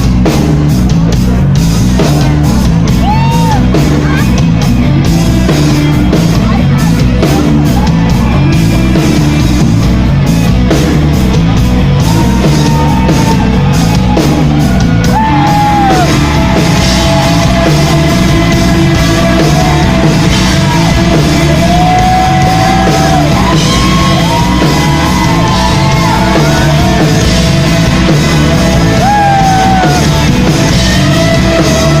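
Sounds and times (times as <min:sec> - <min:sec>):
loud rock music: 0:00.0 - 0:32.0.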